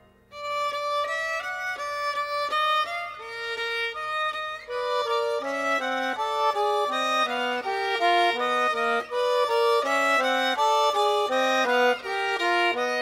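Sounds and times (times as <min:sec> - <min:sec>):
lively melody of short notes: 0:00.0 - 0:13.0.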